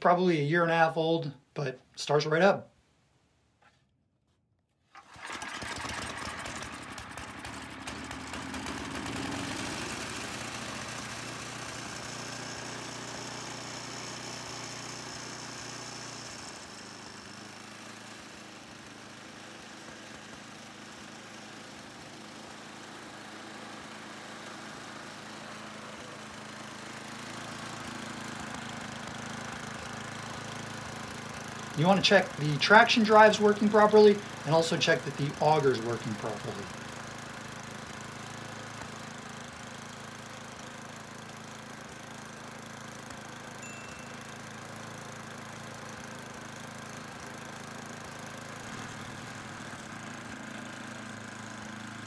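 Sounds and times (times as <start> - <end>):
snowblower engine running: 4.9 - 52.0.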